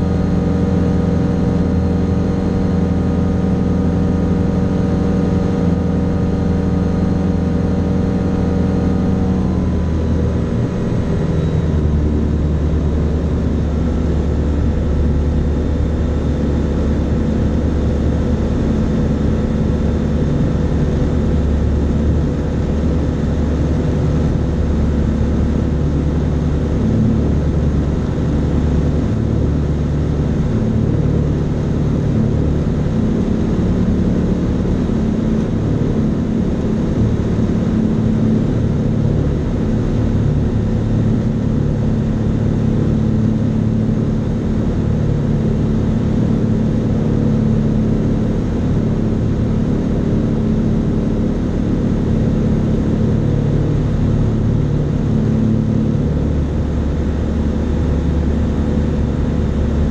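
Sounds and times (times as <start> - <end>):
aircraft engine and propeller droning: 0.0 - 59.9.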